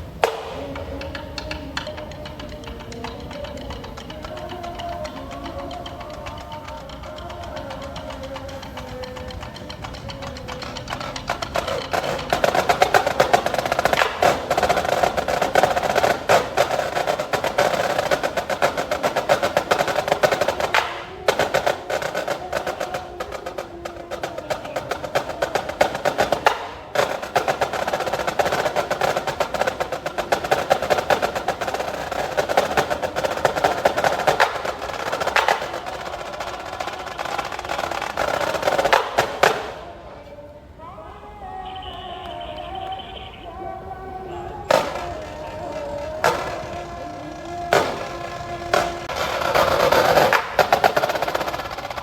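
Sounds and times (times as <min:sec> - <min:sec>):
fast snare drum strokes: 0:00.0 - 0:40.0, 0:44.7 - 0:52.0
marching band music: 0:00.0 - 0:40.8, 0:44.6 - 0:52.0.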